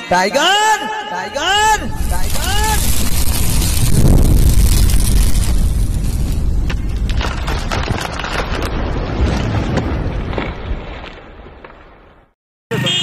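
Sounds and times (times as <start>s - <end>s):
sharp crackling sparks: 1.5s - 12.3s
deep rumbling boom: 1.6s - 12.2s.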